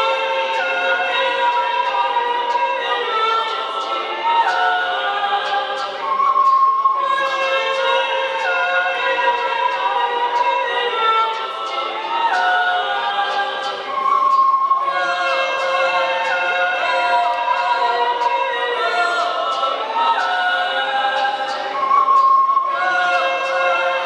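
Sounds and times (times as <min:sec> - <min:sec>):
layered a cappella harmony vocals: 0:00.0 - 0:24.0.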